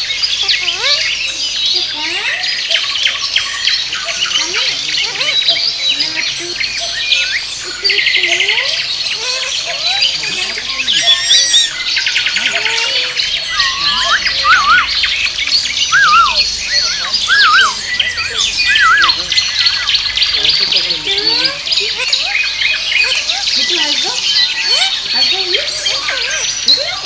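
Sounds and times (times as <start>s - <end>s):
birds chirping: 0.0s - 27.0s
parakeet calling and chattering: 0.0s - 27.0s
wavy whistled calls: 0.0s - 27.0s.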